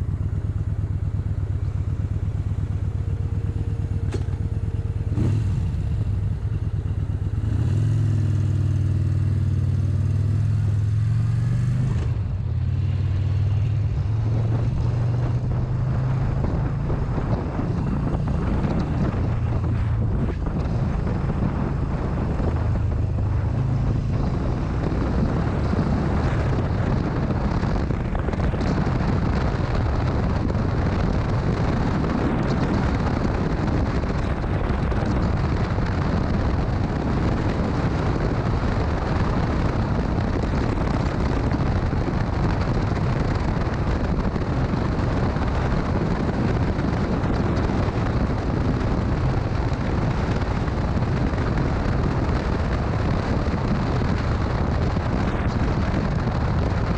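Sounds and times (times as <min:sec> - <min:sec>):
motorcycle engine rumble: 0:00.0 - 0:56.9
wind rushing over microphone: 0:00.0 - 0:56.9.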